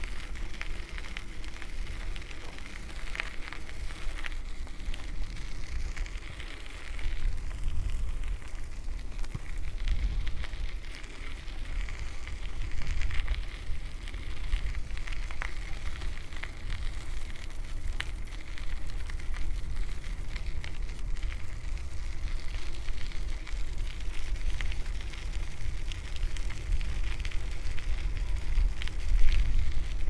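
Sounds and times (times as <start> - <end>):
crackling tyre noise: 0.0 - 30.0
wind rumbling on microphone: 0.0 - 30.0.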